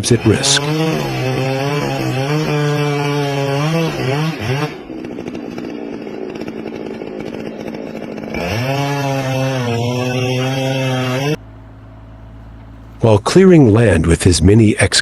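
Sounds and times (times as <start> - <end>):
chainsaw running: 0.0 - 13.2.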